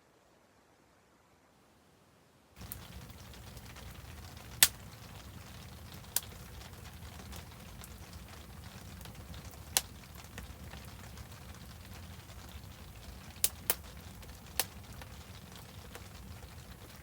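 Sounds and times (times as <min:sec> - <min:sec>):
wood fire crackling: 0:02.6 - 0:17.0.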